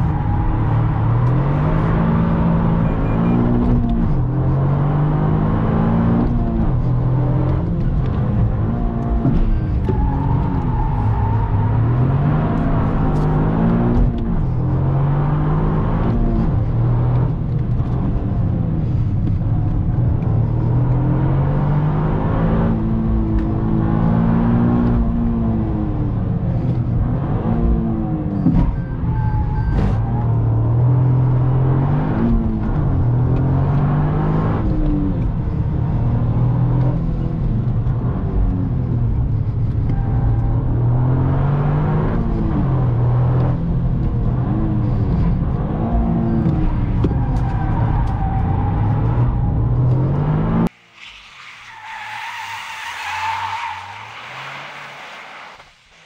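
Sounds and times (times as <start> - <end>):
car engine pulling hard: 0.0 - 50.8.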